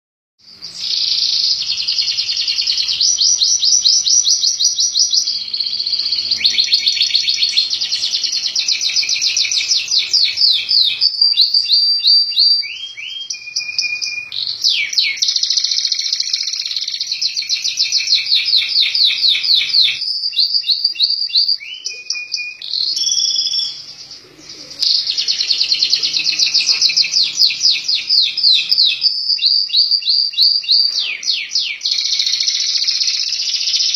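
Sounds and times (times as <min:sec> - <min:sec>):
canary singing: 0:00.4 - 0:33.9.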